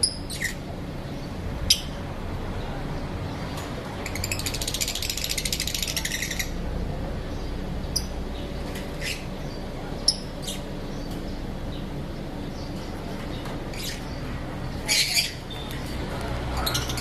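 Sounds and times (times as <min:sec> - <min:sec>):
lovebirds trilled chatter: 0:00.0 - 0:17.0.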